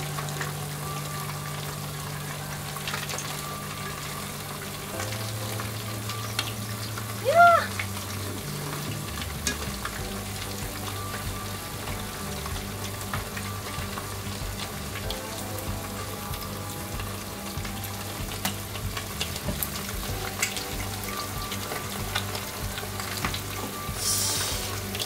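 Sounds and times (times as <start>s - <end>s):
batter sizzling in a frying pan: 0.0s - 25.0s.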